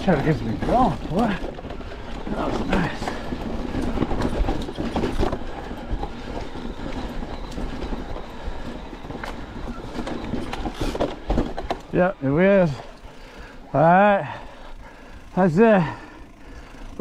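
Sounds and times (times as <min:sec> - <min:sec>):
bike tyres rumbling over stones: 0:00.0 - 0:17.0
chain and frame rattle: 0:00.0 - 0:17.0.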